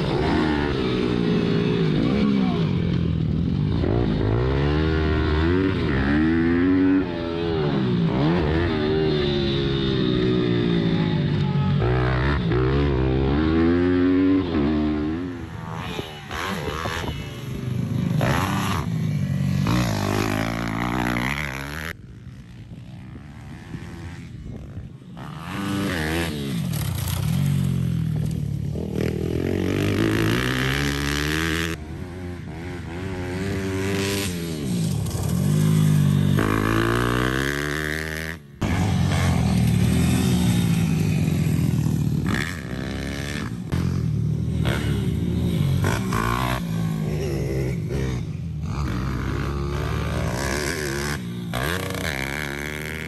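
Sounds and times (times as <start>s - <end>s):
motorbike engine revving: 0.0s - 22.0s, 22.9s - 53.0s.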